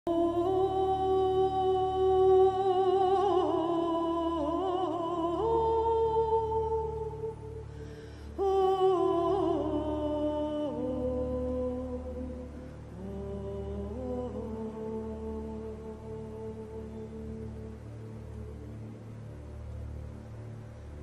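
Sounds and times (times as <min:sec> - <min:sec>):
slow music with held notes: 0:00.1 - 0:21.0.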